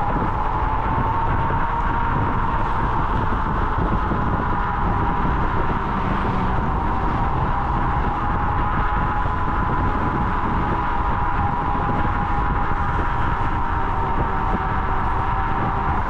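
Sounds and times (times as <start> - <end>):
electric scooter motor whining: 0.0 - 16.0
wind rushing over microphone: 0.0 - 16.0.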